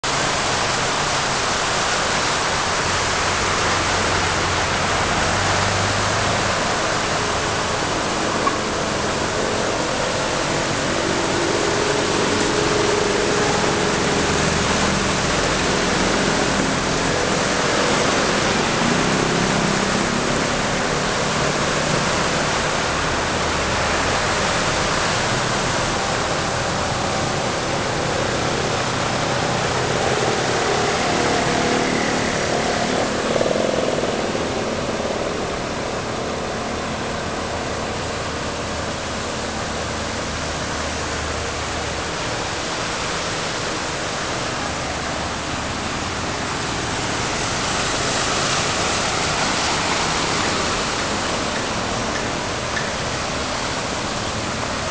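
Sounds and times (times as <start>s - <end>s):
loud steady rushing noise: 0.0s - 54.9s
tyres spraying water: 0.0s - 54.9s
vehicle engines running: 0.0s - 54.9s.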